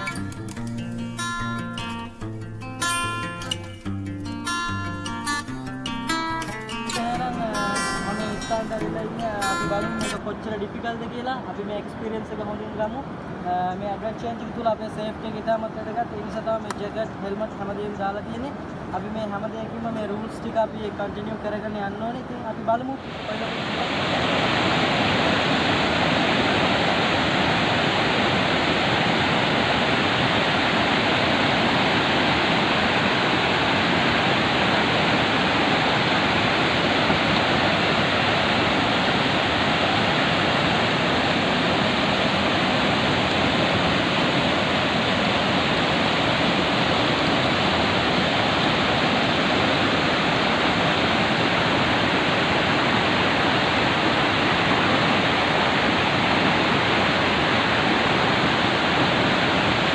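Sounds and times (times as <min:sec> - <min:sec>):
river white water rushing: 0:00.0 - 0:16.5, 0:18.5 - 0:59.9.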